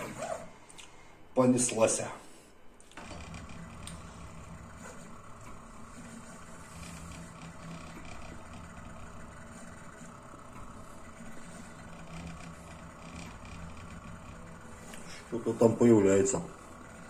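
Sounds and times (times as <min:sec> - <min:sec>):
laser engraver motor hum: 0:03.0 - 0:17.0.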